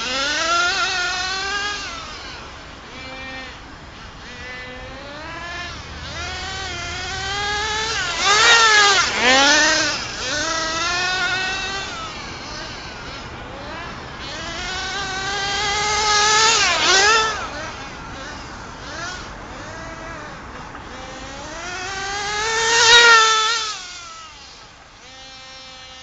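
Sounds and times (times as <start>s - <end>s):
small engine screaming at high revs: 0.0s - 26.0s.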